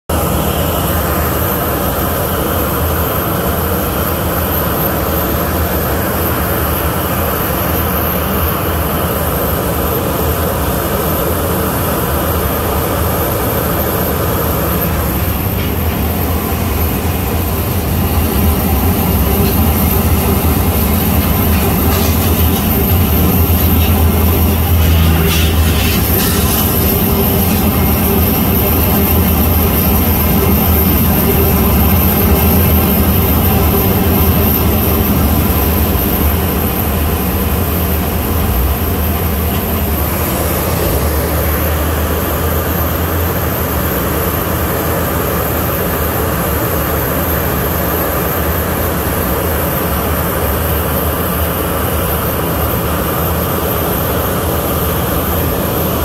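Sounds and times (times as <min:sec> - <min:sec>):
jet engines whining: 0:00.1 - 0:56.0.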